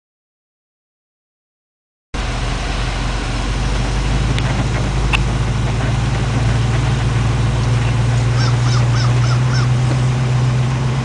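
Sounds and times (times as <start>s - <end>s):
car engine droning at low speed: 2.2s - 11.0s.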